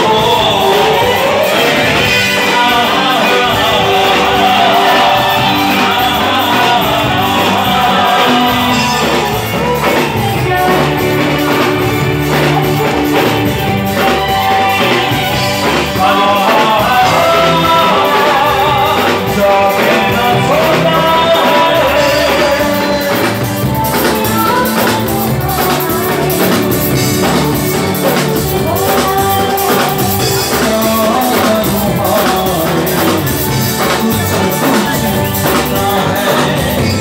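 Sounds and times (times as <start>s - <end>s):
band playing: 0.0s - 37.0s
person singing: 0.0s - 37.0s
steady drum beat: 0.0s - 37.0s.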